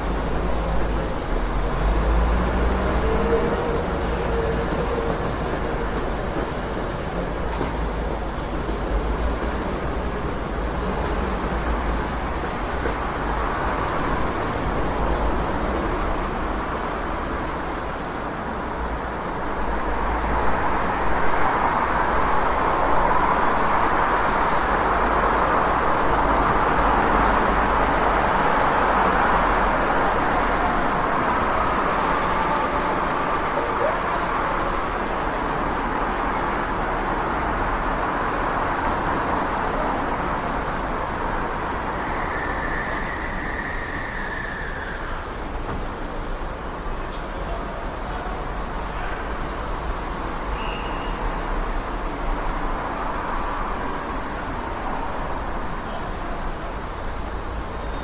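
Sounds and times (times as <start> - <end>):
street traffic noise: 0.0 - 58.0.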